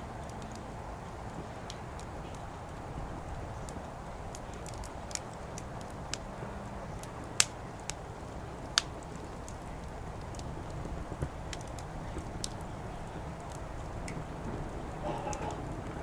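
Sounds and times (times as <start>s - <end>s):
firewood crackling: 0.0s - 16.0s
low background hum: 0.0s - 16.0s.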